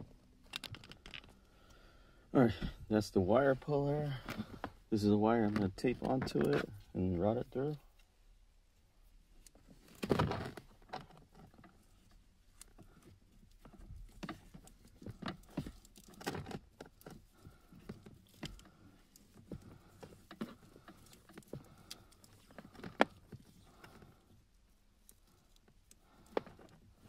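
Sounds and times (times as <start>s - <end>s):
handling rustles and clicks: 0.0s - 1.6s, 3.4s - 8.1s, 9.2s - 27.0s.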